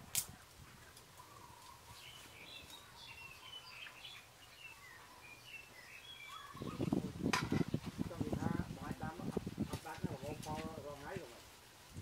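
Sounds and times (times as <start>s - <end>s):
birds chirping: 0.2s - 11.2s.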